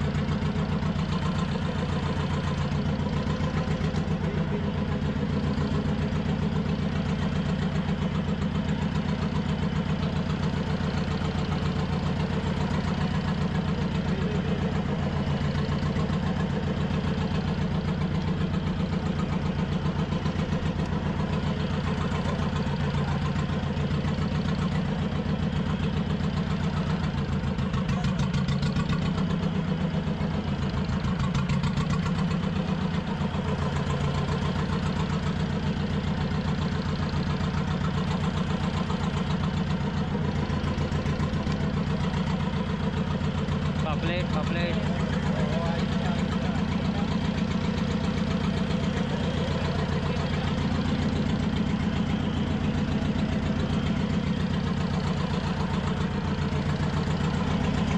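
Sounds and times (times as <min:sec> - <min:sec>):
boat engine idling: 0:00.0 - 0:57.9.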